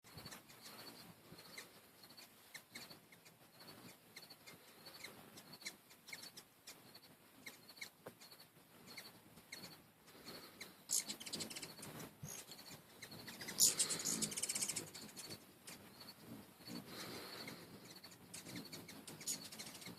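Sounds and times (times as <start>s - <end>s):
hummingbird chips: 0.1s - 19.9s
hummingbirds chattering: 0.1s - 19.9s.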